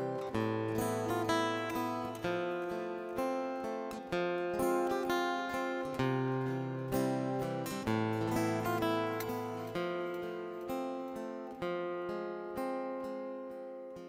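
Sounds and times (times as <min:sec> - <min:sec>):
acoustic guitar chords ringing: 0:00.0 - 0:14.0.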